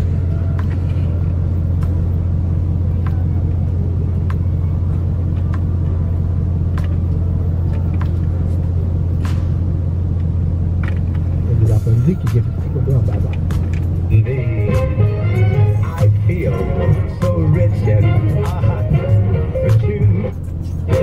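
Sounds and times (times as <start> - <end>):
pickup truck idling: 0.0 - 21.0.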